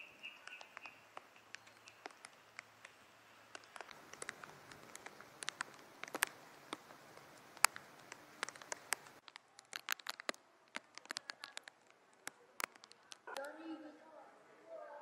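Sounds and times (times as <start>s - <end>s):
rainwater dripping: 0.0s - 13.7s
faint hiss: 0.0s - 15.0s.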